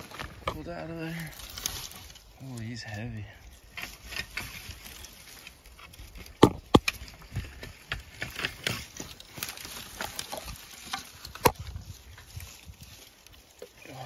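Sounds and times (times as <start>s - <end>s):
scrapes and rustles: 0.0s - 14.0s.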